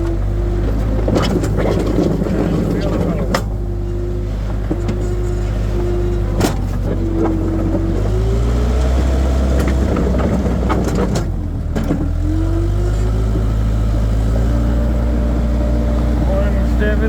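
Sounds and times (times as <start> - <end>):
hydraulic whine: 0.0 - 17.0
loader engine drone: 0.0 - 17.0.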